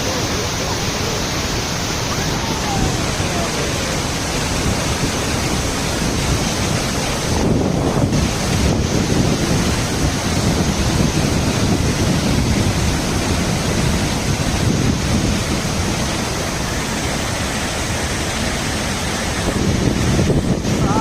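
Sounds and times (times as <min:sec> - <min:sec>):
water rushing: 0:00.0 - 0:21.0
wind buffeting microphone: 0:00.0 - 0:21.0.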